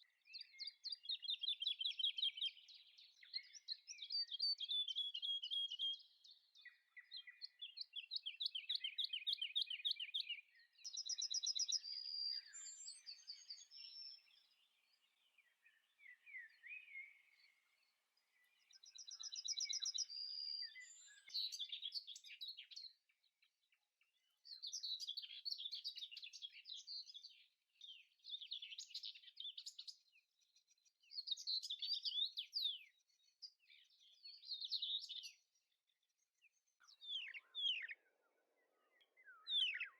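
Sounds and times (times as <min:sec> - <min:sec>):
birds chirping and trilling: 0:00.2 - 0:35.7, 0:36.4 - 0:39.9.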